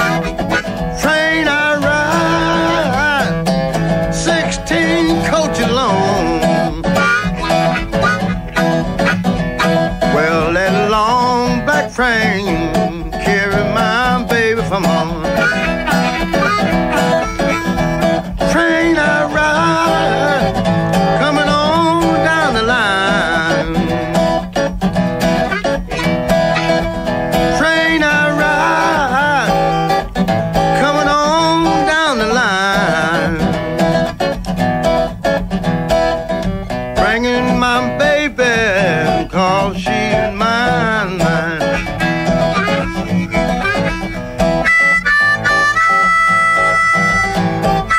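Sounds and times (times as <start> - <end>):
bending lead guitar notes: 0.0 - 47.9
electric blues band: 0.0 - 47.9.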